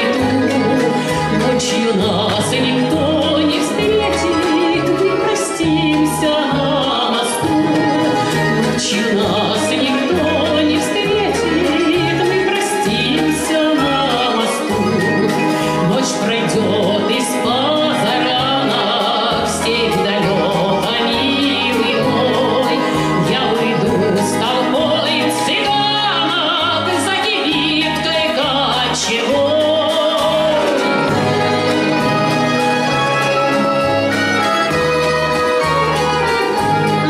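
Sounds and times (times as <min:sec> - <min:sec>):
plucked string orchestra: 0:00.0 - 0:37.0
woman singing with vibrato: 0:00.0 - 0:37.0.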